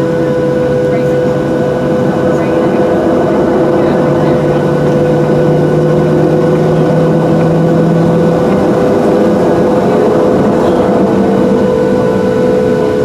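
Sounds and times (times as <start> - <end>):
jet engine cabin drone: 0.0 - 13.0.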